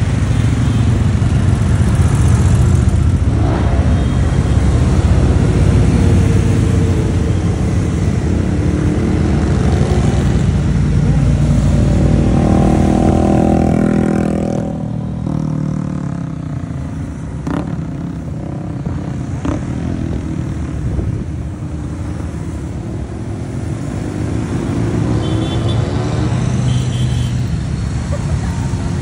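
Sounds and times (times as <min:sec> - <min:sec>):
motorcycles riding past: 0:00.0 - 0:29.0.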